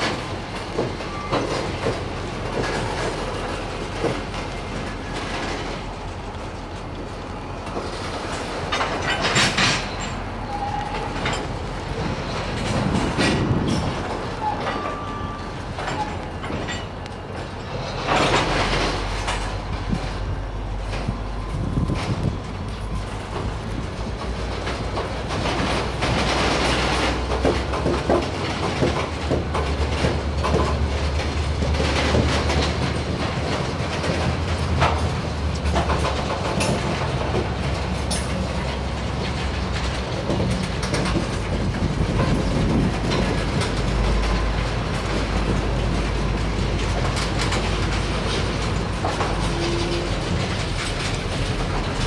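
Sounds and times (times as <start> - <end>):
train rumble: 0.0 - 52.0
train wheels clicking over rails: 0.0 - 52.0.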